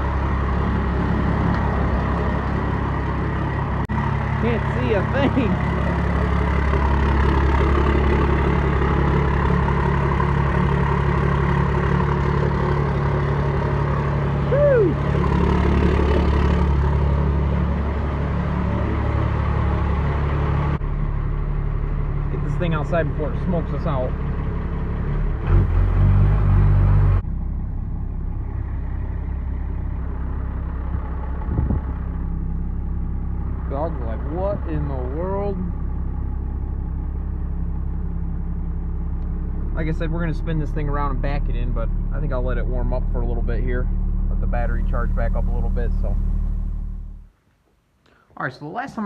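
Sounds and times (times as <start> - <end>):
diesel engine idling: 0.0 - 47.4.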